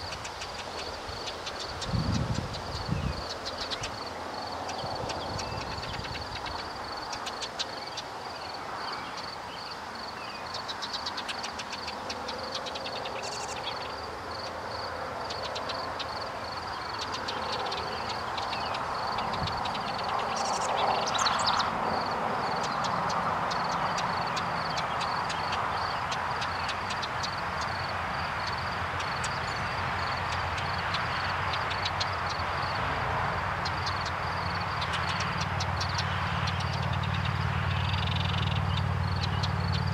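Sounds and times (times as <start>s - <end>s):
high chattering bird calls: 0.0s - 14.4s, 15.3s - 32.7s, 33.6s - 39.9s.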